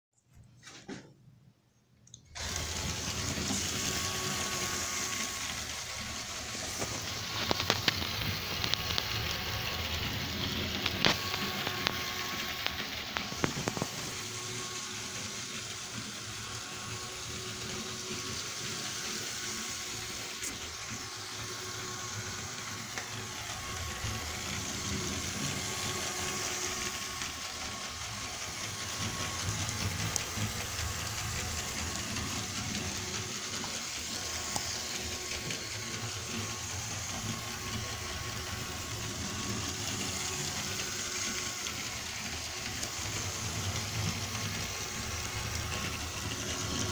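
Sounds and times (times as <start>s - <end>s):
toy train motor whirring: 2.3s - 46.9s.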